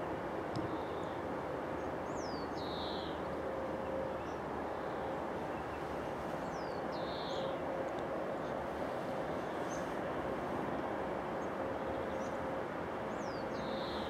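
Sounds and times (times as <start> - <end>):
distant rail and town rumble: 0.0 - 14.0.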